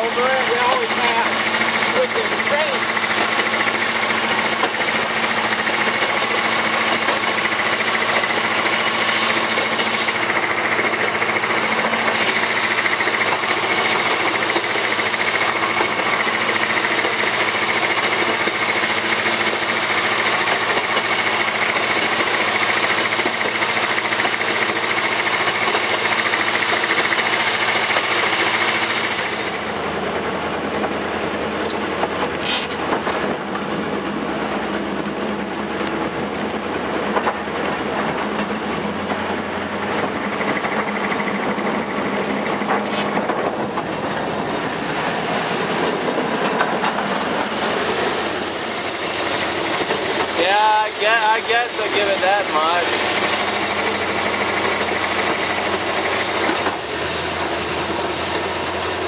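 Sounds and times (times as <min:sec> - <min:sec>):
diesel locomotive engine running: 0:00.0 - 0:59.0
train wheels on track: 0:00.0 - 0:59.0.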